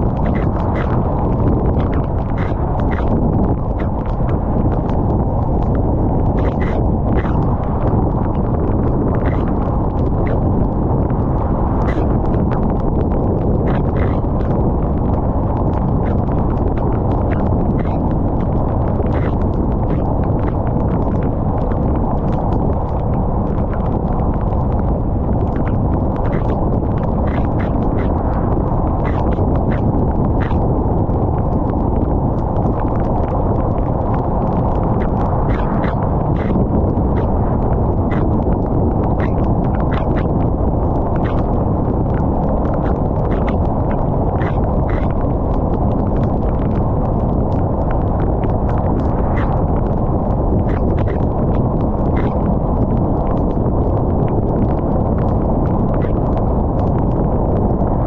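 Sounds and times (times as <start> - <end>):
loud low rumble: 0.0 - 58.0
raindrops ticking: 0.0 - 58.0
steady low rain rush: 0.0 - 58.0.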